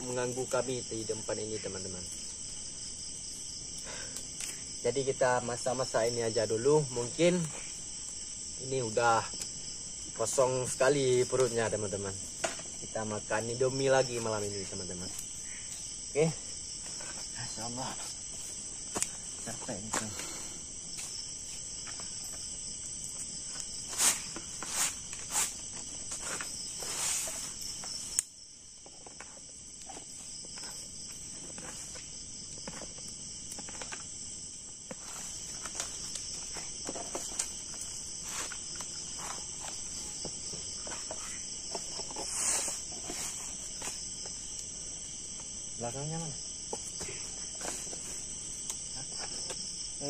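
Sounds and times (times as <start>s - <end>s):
night insects trilling: 0.0s - 50.0s.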